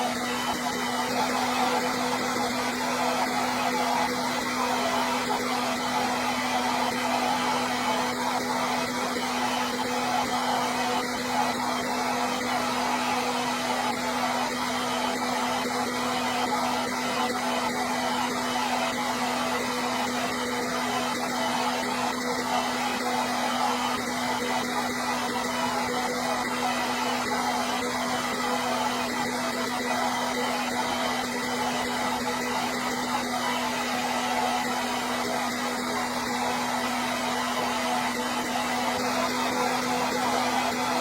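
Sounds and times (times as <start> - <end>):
hair dryer air rush: 0.0 - 41.0
hair dryer motor hum: 0.0 - 41.0.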